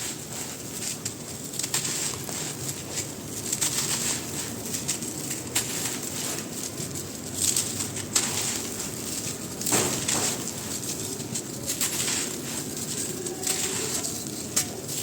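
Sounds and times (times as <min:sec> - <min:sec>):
sand shapes crunching: 0:00.0 - 0:15.0.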